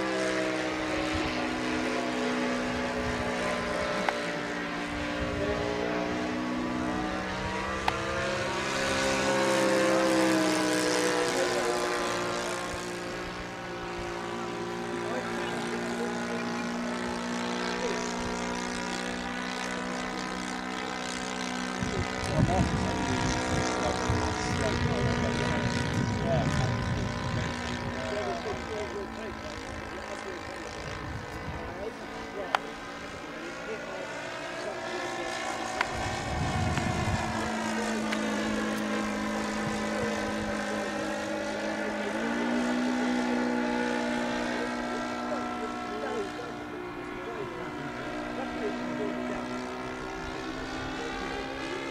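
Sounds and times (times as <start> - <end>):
model airplane engine overhead: 0.0 - 51.9.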